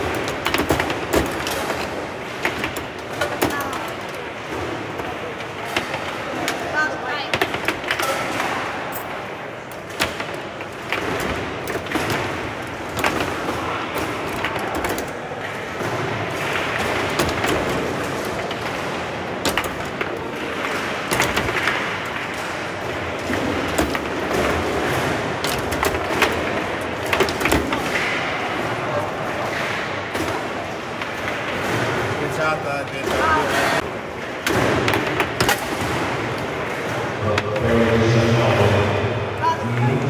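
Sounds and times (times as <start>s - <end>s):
foosball ball clacks: 0.0s - 37.9s
hall noise: 0.0s - 40.0s.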